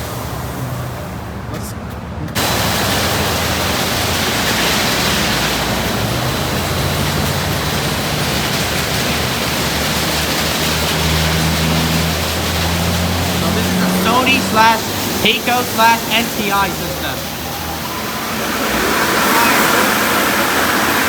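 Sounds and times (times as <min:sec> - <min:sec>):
water jets spraying on car: 0:00.0 - 0:21.0.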